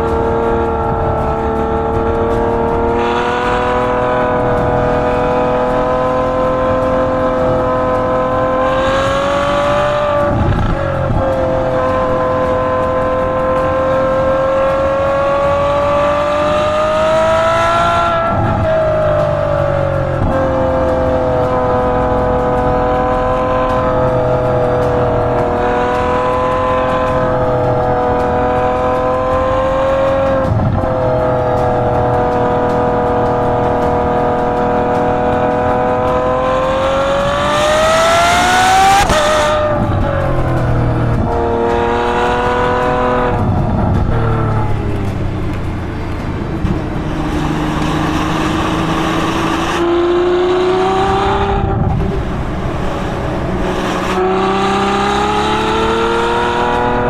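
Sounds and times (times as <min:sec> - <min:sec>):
sports car engine exhaust revving: 0:00.0 - 0:57.0.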